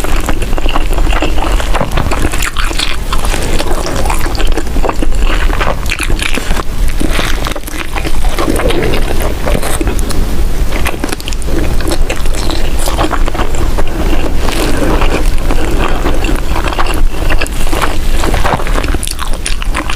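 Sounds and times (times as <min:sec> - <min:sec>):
close chewing mouth clicks: 0:00.0 - 0:19.9.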